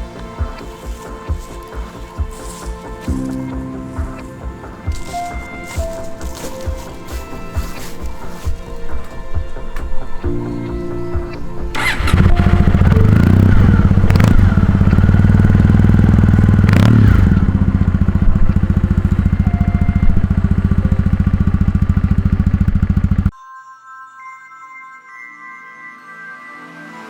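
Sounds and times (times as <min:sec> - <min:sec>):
motorcycle engine running: 0:00.0 - 0:10.1, 0:10.9 - 0:23.3.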